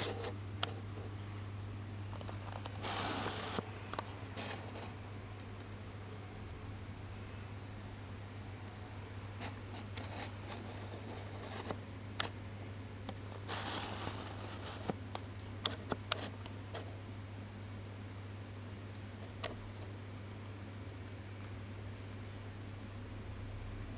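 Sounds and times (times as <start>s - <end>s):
aquarium filter humming: 0.0s - 23.9s.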